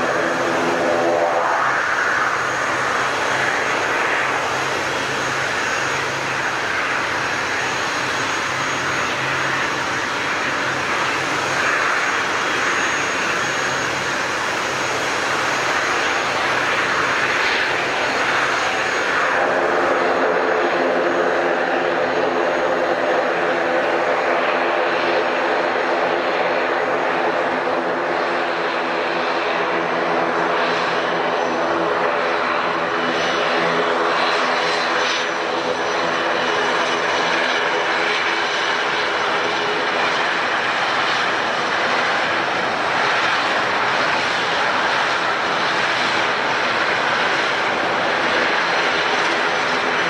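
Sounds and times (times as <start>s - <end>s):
aircraft engines roaring: 0.0s - 50.0s.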